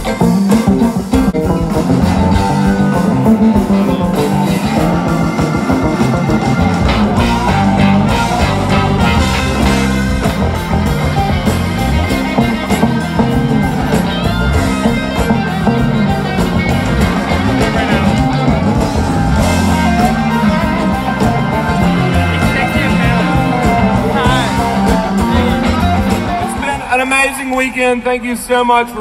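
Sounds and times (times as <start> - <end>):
live rock band playing: 0.0 - 27.5
electric guitars: 0.0 - 27.6.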